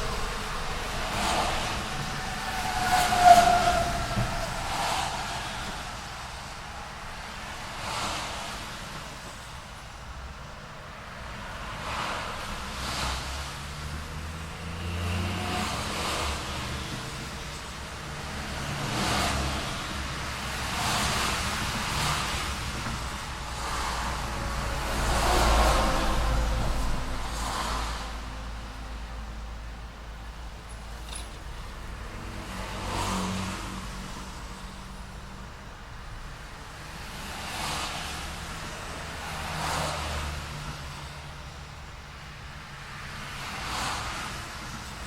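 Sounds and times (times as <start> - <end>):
vehicle approaching: 0.0 - 8.7, 11.3 - 42.1
cars passing with tyre hiss: 0.0 - 45.0
street traffic noise: 0.0 - 45.0.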